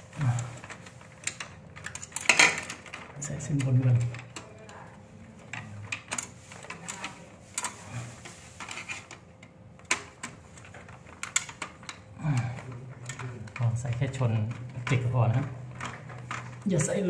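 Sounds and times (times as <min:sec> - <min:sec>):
light clicks of wires and breakers: 0:00.2 - 0:17.0.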